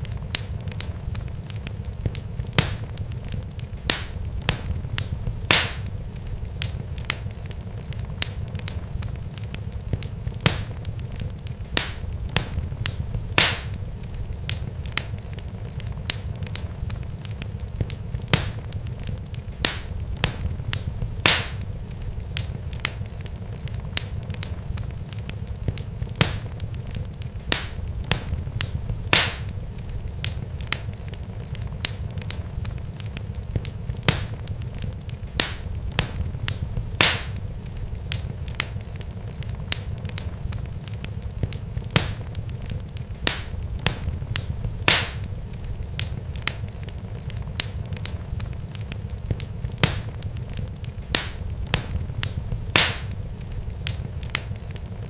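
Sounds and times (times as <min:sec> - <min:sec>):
sharp crackling pops: 0:00.0 - 0:55.0
steady low rumble: 0:00.0 - 0:55.0.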